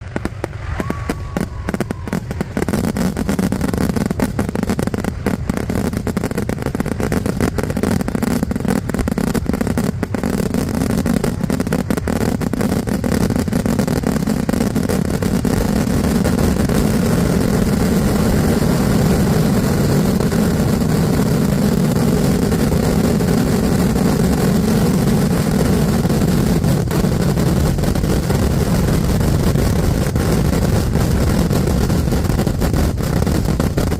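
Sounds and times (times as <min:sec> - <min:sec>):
fireworks exploding: 0:00.0 - 0:33.9.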